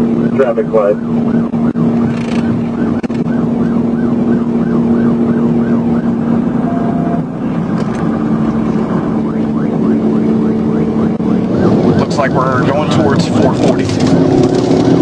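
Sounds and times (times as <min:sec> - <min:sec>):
police siren yelping: 0:00.0 - 0:14.5
engine and road drone: 0:00.0 - 0:15.0.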